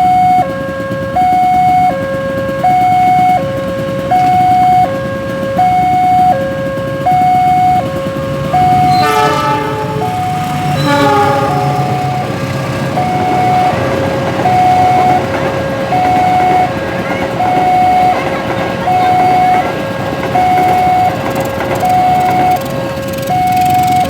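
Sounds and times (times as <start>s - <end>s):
train horn blasts: 0.0s - 23.4s
level crossing two-tone alarm: 0.0s - 24.0s
train rumbling: 0.0s - 24.0s.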